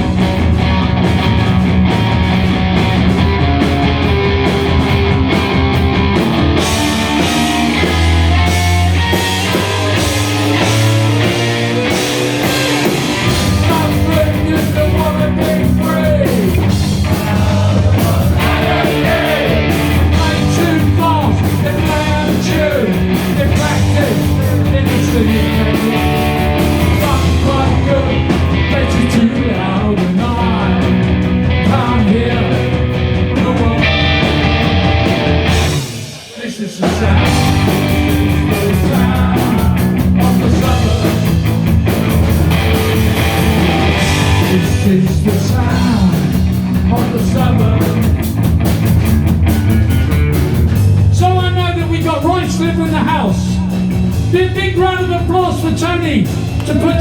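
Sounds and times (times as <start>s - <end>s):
electric guitar lead: 0.0s - 36.2s, 37.0s - 51.2s
punk rock band playing live: 0.0s - 57.0s.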